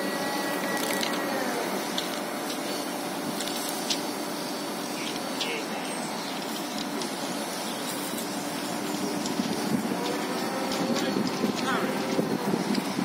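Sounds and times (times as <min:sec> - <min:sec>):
excavator machinery hissing: 0:00.0 - 0:13.0.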